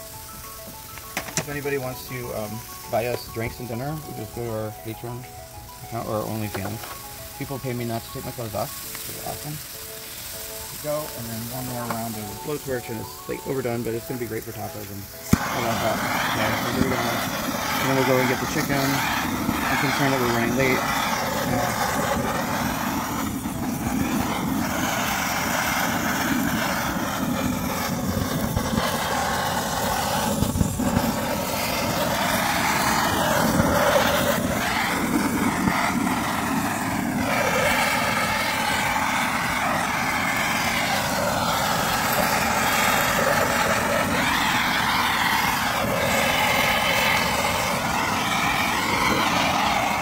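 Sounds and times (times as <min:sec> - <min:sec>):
blowtorch hissing: 0:00.0 - 0:50.0.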